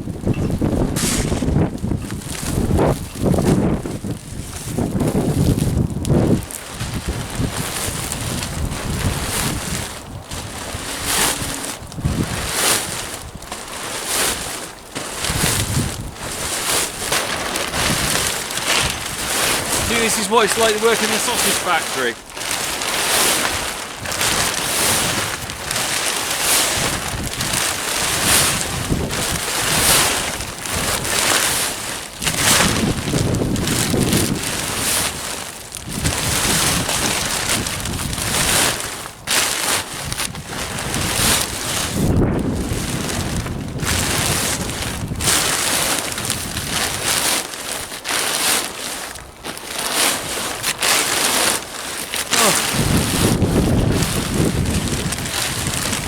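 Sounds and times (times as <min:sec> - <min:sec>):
wind buffeting microphone: 0:00.0 - 0:47.5, 0:52.4 - 0:56.0
plastic sheet crackling and rustling: 0:00.0 - 0:56.0.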